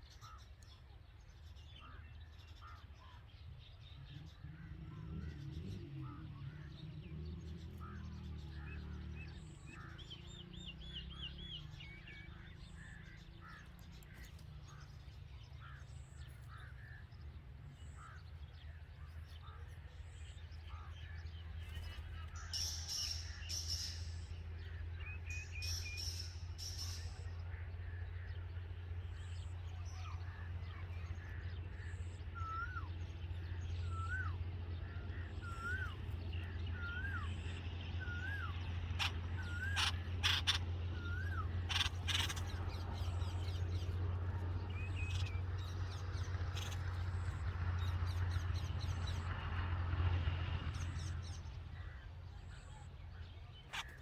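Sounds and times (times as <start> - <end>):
birds chirping: 0.0 - 54.0
steady low hum: 1.8 - 54.0.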